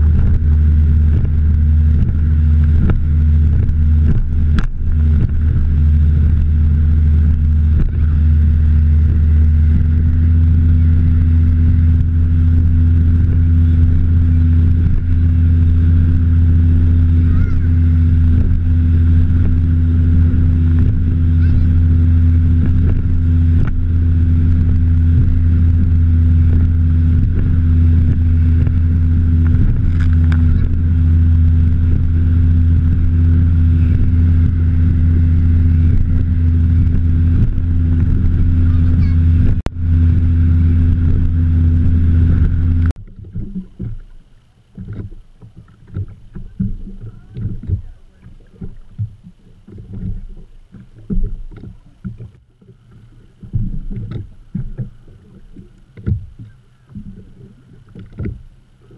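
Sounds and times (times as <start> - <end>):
outboard motor droning: 0.0 - 58.9
wind and water rush: 0.0 - 58.9.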